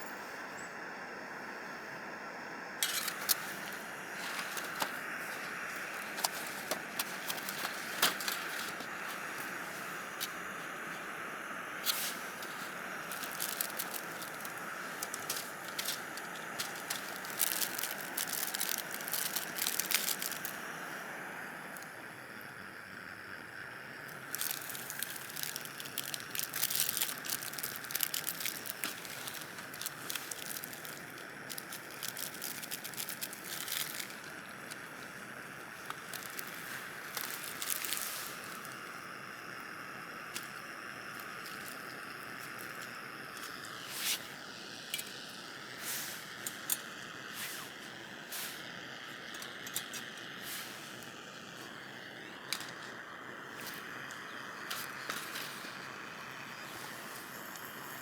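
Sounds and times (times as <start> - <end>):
steady hiss: 0.0 - 58.0
sharp crackling clicks: 2.8 - 20.9, 24.0 - 55.9.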